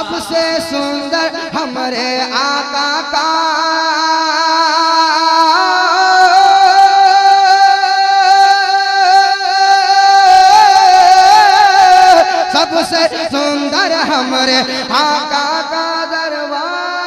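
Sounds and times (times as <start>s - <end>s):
man singing long note: 0.0s - 17.0s.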